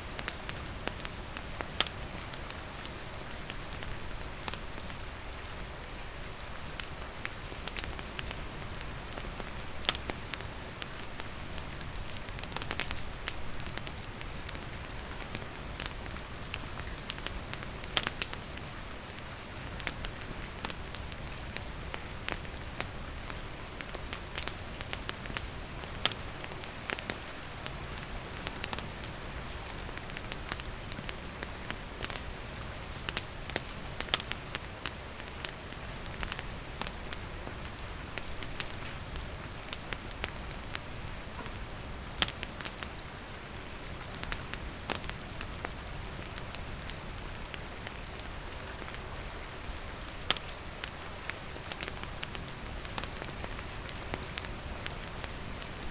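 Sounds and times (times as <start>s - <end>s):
steady rain falling: 0.0s - 55.9s
wood fire crackling: 0.0s - 55.9s.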